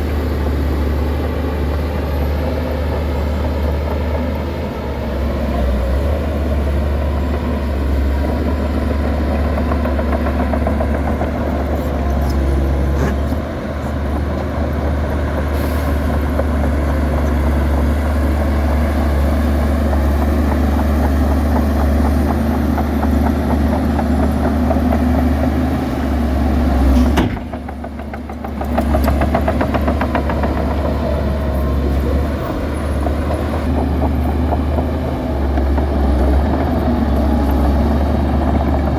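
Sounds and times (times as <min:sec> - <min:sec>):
heavy diesel engine droning: 0:00.0 - 0:38.9.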